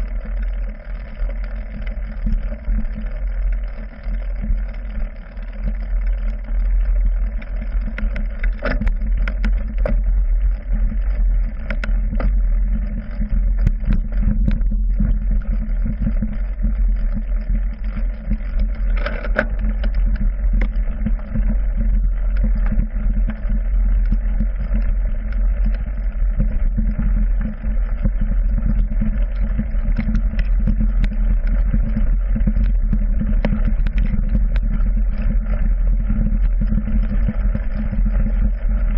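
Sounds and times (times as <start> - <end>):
bike tyres rumbling on trail: 0.0 - 38.9.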